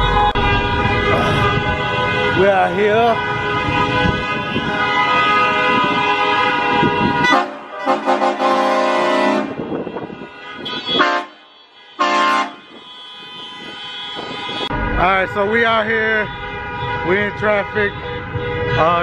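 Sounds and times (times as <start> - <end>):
vehicle horns honking: 0.0 - 19.0.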